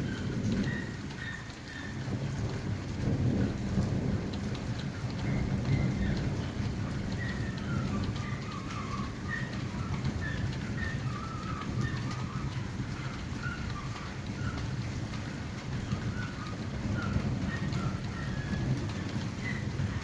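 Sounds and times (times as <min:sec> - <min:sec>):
heavy rain pouring: 0:00.0 - 0:20.0
low rumble of thunder: 0:00.0 - 0:20.0.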